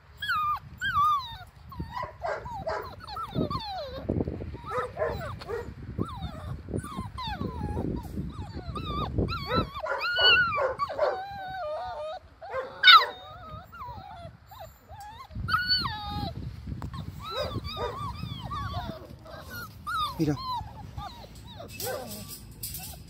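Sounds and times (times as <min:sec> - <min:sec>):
puppies whining and whimpering: 0:00.0 - 0:23.0
puppy yelp: 0:00.2 - 0:23.0.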